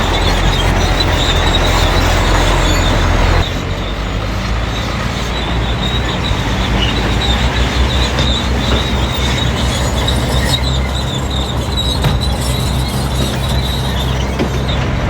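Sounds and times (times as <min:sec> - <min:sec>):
diesel engine under load: 0:00.0 - 0:15.0
steel tracks squealing: 0:00.0 - 0:15.0.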